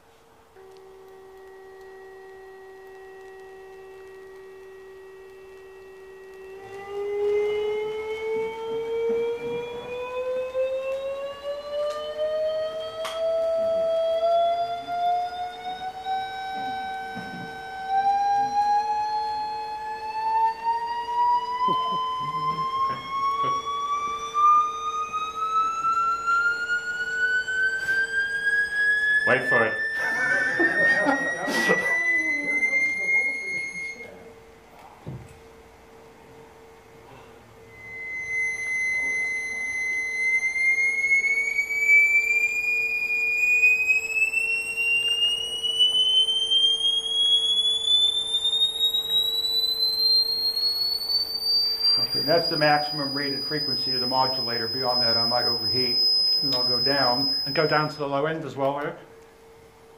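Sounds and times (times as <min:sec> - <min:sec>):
pure tone sweeping upward: 0:00.0 - 0:34.4, 0:37.1 - 0:58.6
faint low hum: 0:00.0 - 0:59.9.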